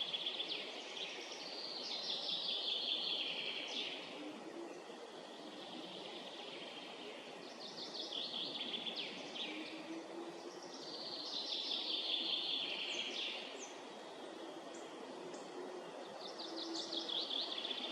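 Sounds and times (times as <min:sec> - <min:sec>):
background hiss: 0:00.0 - 0:17.9
songbirds singing: 0:00.0 - 0:17.9.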